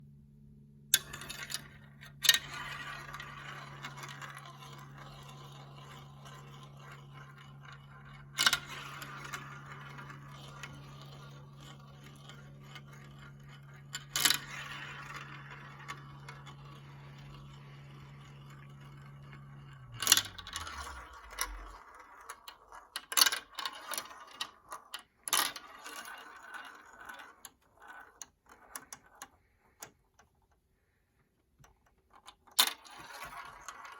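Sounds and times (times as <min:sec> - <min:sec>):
marbles clacking: 0:00.9 - 0:29.9
marbles rolling and rattling: 0:00.9 - 0:29.9, 0:32.1 - 0:33.9.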